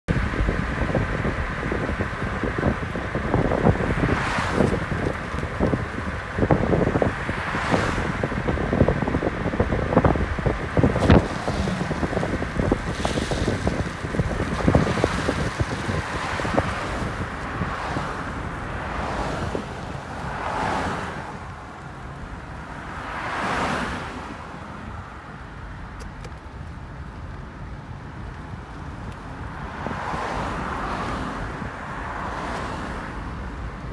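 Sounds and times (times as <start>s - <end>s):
road noise rushing: 0.0s - 33.9s
wind buffeting microphone: 0.1s - 33.9s.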